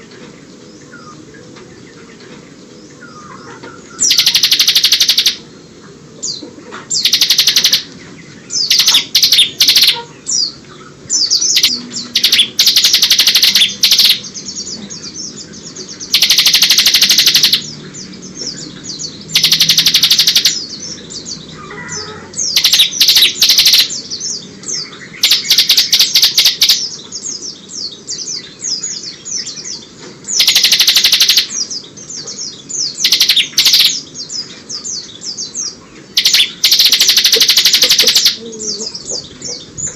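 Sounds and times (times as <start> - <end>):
bird chirps: 2.9 - 5.5, 6.3 - 10.6, 11.2 - 39.9
bird singing trilled phrases: 2.9 - 5.5, 6.3 - 39.9.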